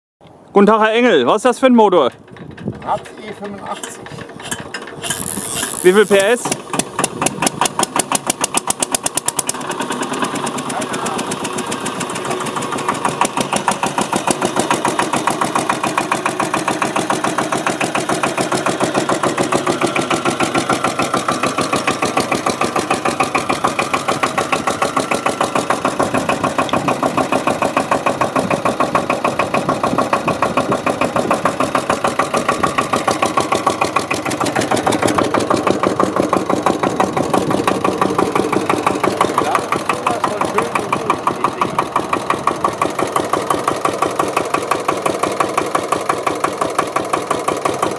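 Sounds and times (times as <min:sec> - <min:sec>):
diesel engine idling: 0:00.7 - 0:47.9.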